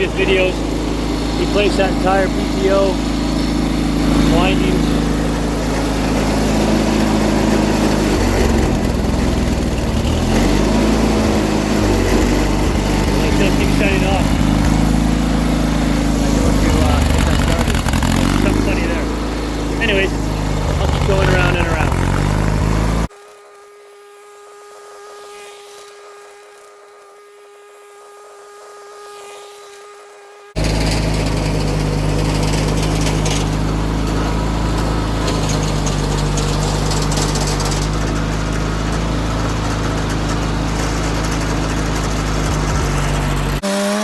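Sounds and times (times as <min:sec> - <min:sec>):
tractor engine running under load: 0:00.0 - 0:23.1, 0:30.6 - 0:43.8.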